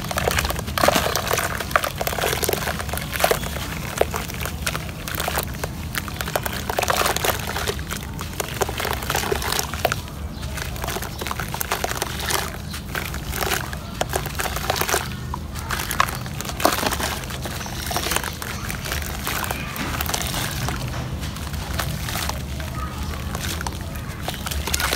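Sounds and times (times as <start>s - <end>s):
gritty crunching of wet mud: 0.0s - 24.9s
water splashing and sloshing: 0.0s - 24.9s.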